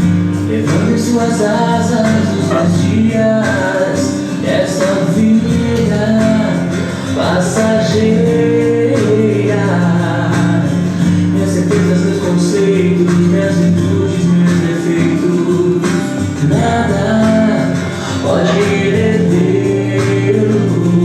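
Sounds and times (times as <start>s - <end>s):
guitar accompaniment: 0.0s - 21.0s
person singing worship song: 0.0s - 21.0s.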